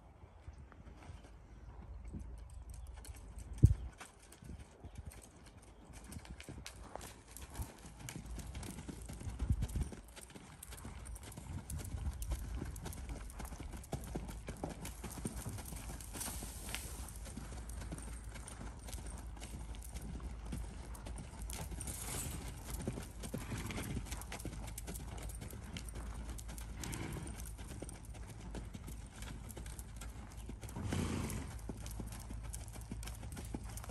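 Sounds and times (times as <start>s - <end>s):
horse hoofbeats on sand: 0.8s - 33.9s.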